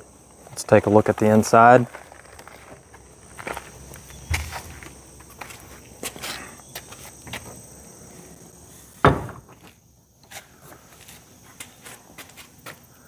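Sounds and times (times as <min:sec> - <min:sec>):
footsteps: 0:00.4 - 0:07.6, 0:09.5 - 0:12.8.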